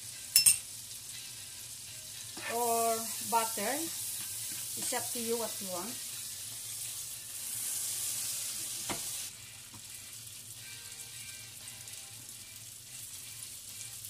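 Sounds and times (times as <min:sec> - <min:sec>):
oil sizzling in frying pan: 0:00.0 - 0:14.0.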